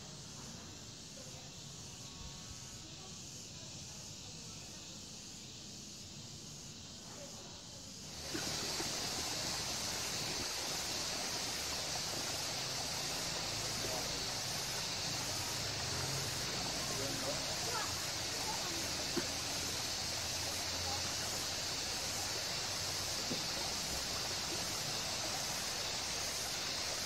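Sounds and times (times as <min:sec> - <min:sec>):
high-pitched insect chorus: 0:00.0 - 0:27.0
soft hiss: 0:00.0 - 0:27.0.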